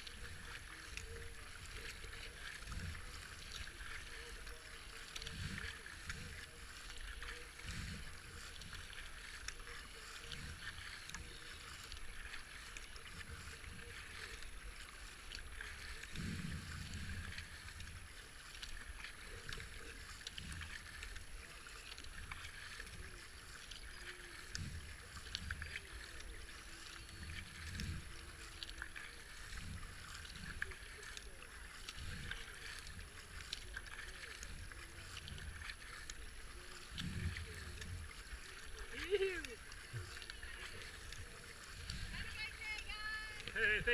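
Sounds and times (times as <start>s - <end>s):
paddle blades splashing: 0.0s - 43.9s
water rushing along hull: 0.0s - 43.9s.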